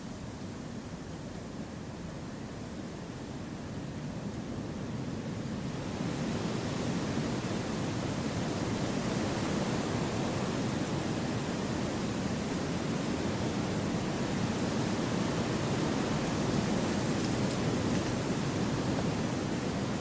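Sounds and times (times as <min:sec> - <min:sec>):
wind through trees: 0:00.0 - 0:20.0.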